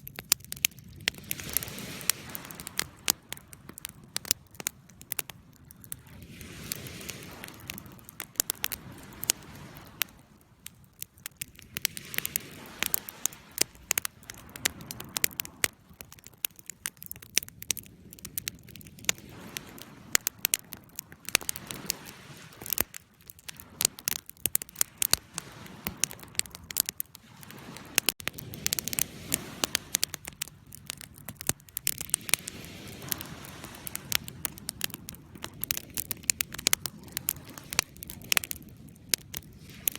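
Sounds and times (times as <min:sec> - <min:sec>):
soft rushing of fire: 0:00.0 - 0:39.9
wood fire crackling: 0:00.0 - 0:39.9.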